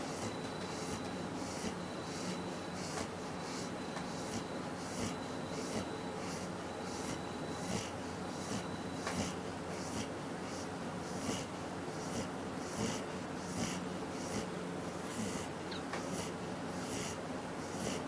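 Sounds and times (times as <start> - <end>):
dog snoring: 0.0 - 18.0.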